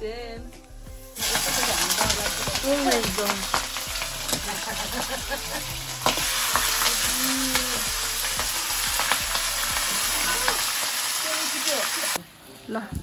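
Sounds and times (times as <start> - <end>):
meat sizzling in a pan: 1.0 - 12.6.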